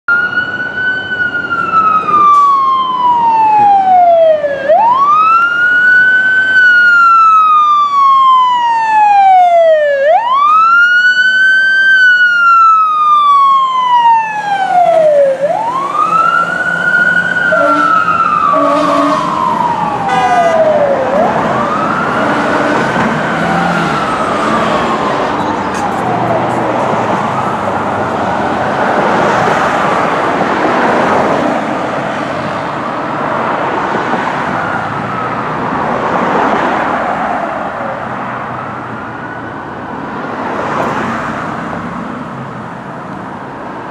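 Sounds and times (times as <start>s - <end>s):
fire engine siren wailing: 0.1s - 42.2s
traffic noise: 0.1s - 43.9s.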